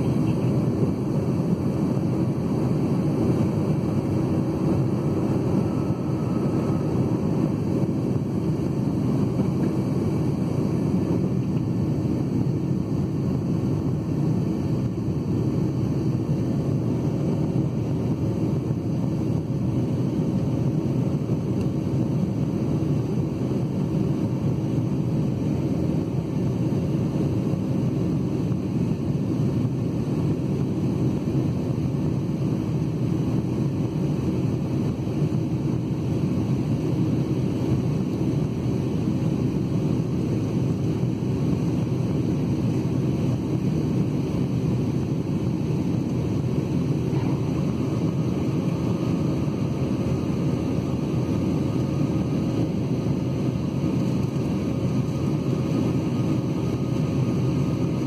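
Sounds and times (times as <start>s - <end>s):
airplane engine and airflow drone: 0.0s - 58.0s
faint steady hum: 0.0s - 58.0s.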